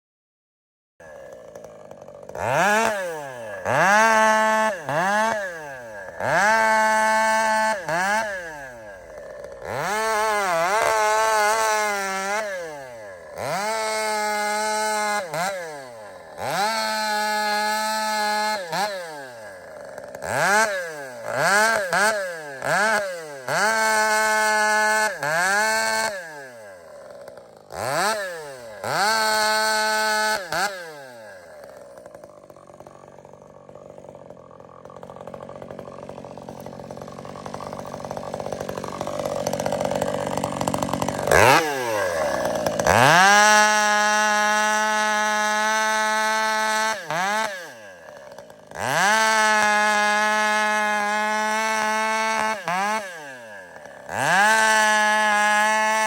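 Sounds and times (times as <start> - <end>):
chainsaw idling: 1.0 - 56.0
chainsaw revving: 1.0 - 56.0.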